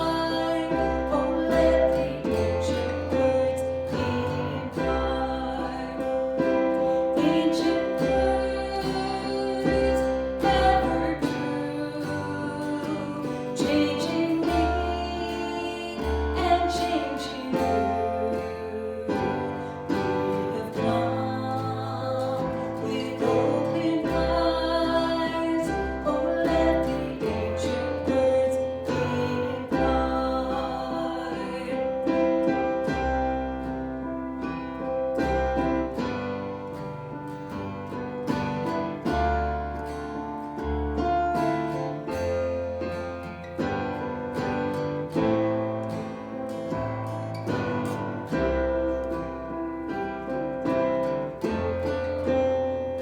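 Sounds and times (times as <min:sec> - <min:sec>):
song with guitar and singing: 0:00.0 - 0:53.0.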